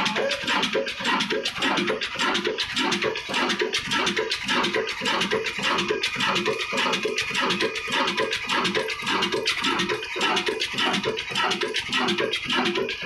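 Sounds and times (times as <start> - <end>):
diesel engine clattering rhythmically: 0.0 - 13.0.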